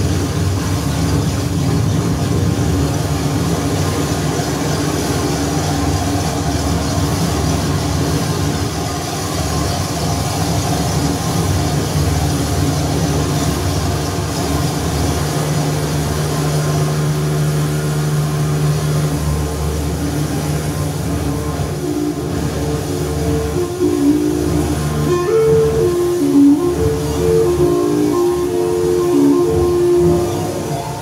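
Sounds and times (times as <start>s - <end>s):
dense low synthesizer drone: 0.0s - 31.0s
steady low tone: 0.0s - 31.0s.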